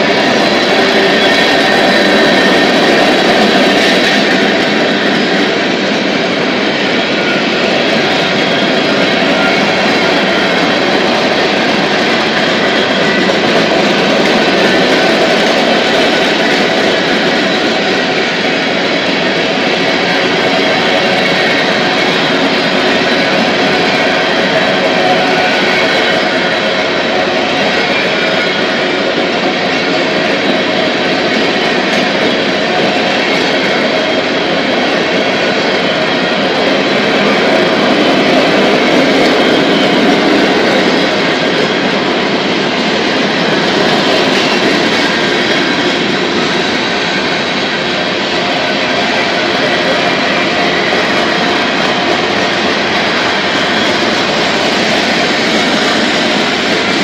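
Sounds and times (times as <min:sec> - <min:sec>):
steel wheels rolling on rails: 0:00.0 - 0:57.0.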